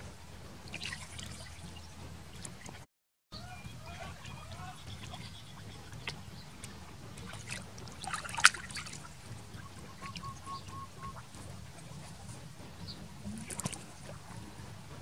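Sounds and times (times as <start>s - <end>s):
water splashing: 0.0s - 15.0s.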